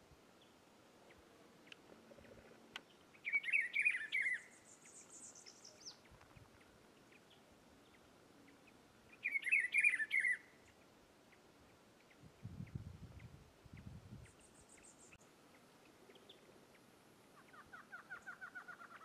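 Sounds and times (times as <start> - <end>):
bird singing warbled phrases: 0.4 - 19.0.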